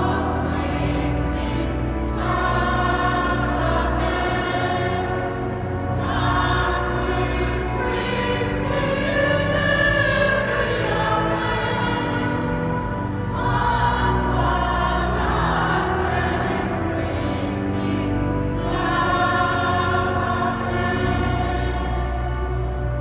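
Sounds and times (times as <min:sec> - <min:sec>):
choir singing a sacred piece: 0:00.0 - 0:23.0.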